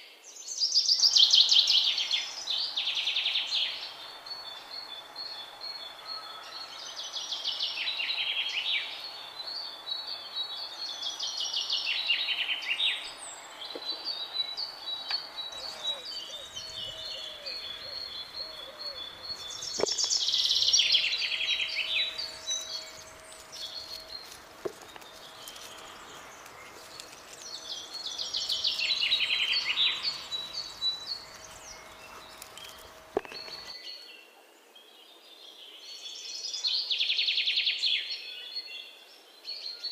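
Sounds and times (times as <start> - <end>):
songbird trilling song: 0.0 - 39.9
thin bird calls: 1.0 - 33.8.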